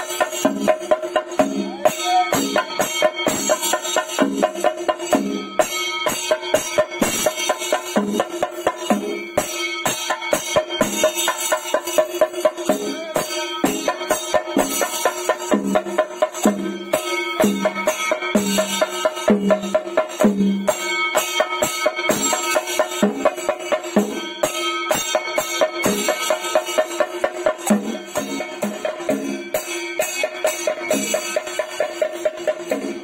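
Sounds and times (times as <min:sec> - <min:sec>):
rhythmic percussion music: 0:00.0 - 0:33.0.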